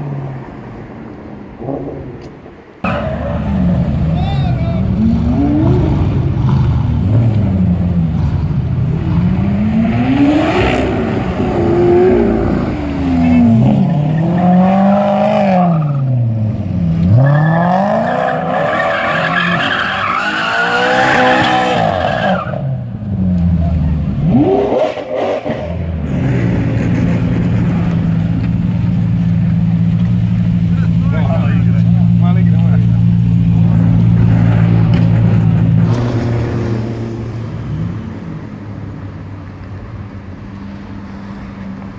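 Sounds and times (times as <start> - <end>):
car engine revving: 2.8 - 38.8.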